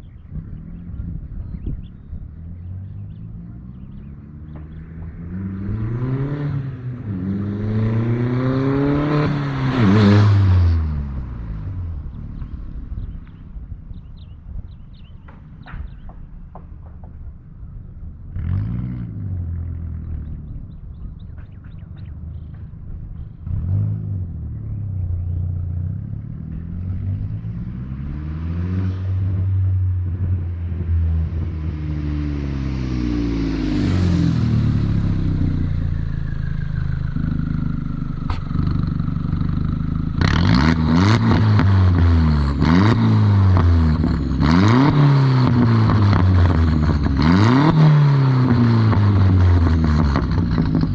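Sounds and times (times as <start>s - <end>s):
car engine revving: 0.0s - 13.4s, 18.2s - 50.9s.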